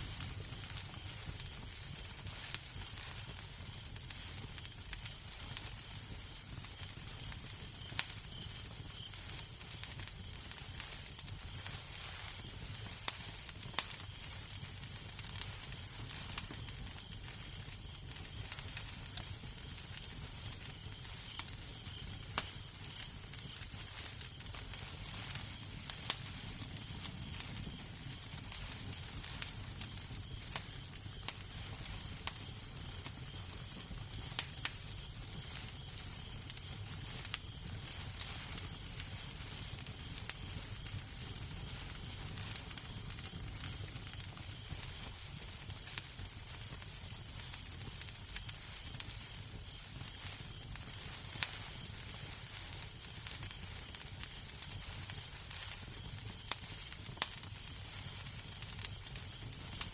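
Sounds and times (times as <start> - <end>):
low rumble of fire: 0.0 - 59.9
wood fire crackling and popping: 0.0 - 59.9.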